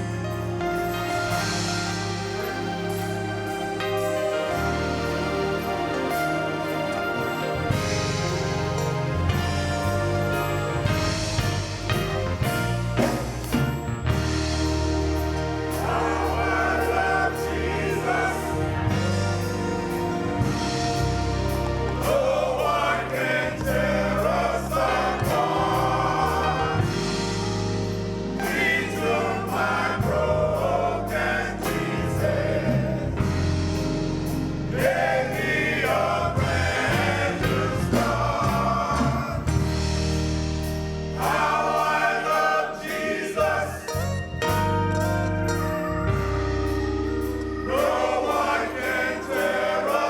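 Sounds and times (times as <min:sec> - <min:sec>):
gospel choir singing: 0:00.0 - 0:50.0
regular drum beat: 0:00.0 - 0:50.0
steady bass notes: 0:07.2 - 0:42.6, 0:43.4 - 0:50.0.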